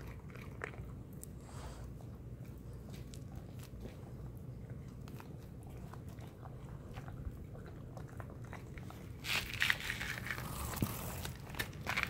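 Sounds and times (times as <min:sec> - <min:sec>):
puppy chewing on fish: 0:00.0 - 0:12.0.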